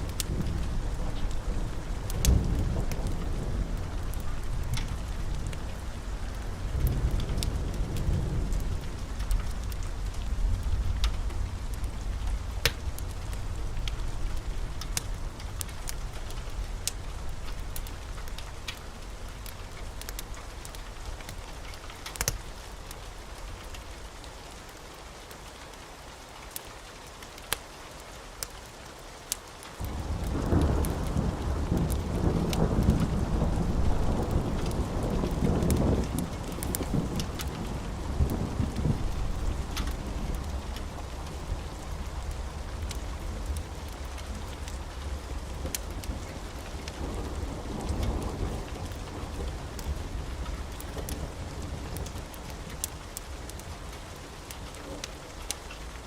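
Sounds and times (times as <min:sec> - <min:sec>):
thunder rumbling: 0:00.0 - 0:22.0, 0:29.8 - 0:56.0
steady rain: 0:00.0 - 0:56.0
wood fire crackling: 0:00.0 - 0:56.0.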